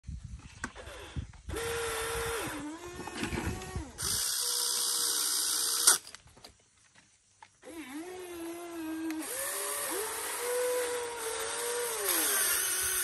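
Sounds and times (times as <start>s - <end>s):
electric motors whining: 0.6s - 6.1s, 7.6s - 13.0s.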